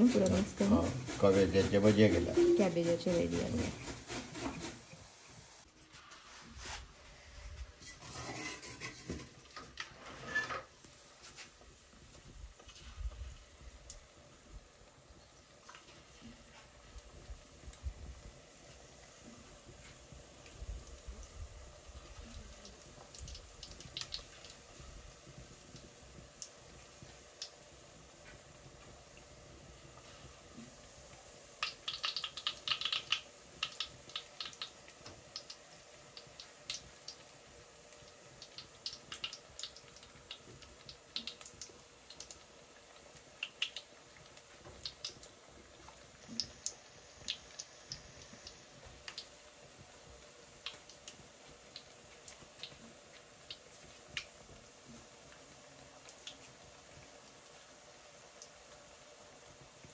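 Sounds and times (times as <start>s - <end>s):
fritters popping in hot oil: 0.0s - 4.7s, 10.6s - 59.9s.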